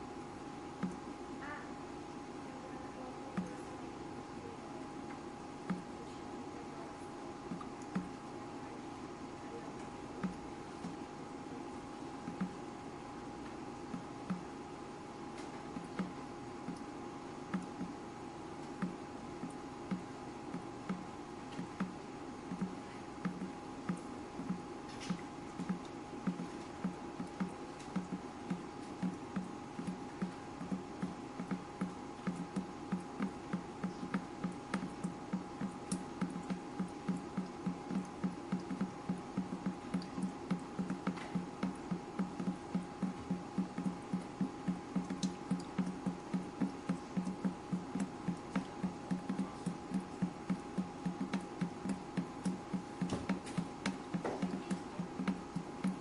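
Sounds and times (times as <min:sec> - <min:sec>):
faint steady hum: 0:00.0 - 0:56.0
water dripping: 0:00.8 - 0:01.1, 0:07.0 - 0:08.3, 0:09.8 - 0:11.0, 0:12.0 - 0:12.7, 0:13.4 - 0:56.0.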